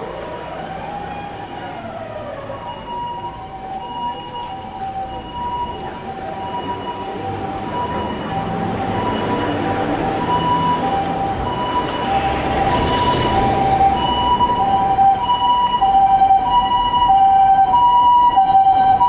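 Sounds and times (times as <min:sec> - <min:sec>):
city traffic noise: 0:00.0 - 0:19.0
two-tone ambulance siren: 0:00.0 - 0:19.0.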